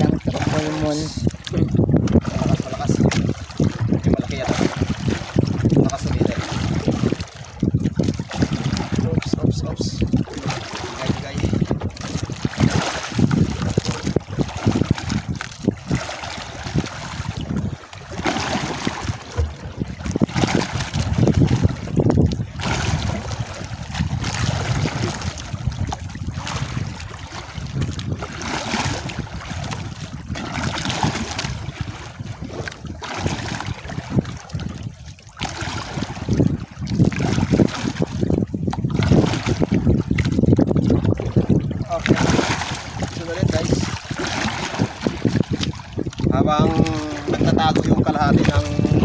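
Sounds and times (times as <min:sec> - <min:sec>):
waves against a boat: 0:00.0 - 0:49.0
wind on microphone: 0:00.0 - 0:49.0.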